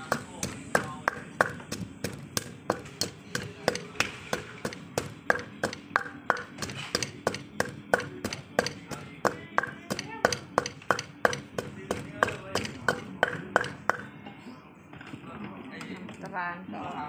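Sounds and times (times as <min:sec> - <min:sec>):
wooden pestle pounding in mortar: 0:00.0 - 0:14.1.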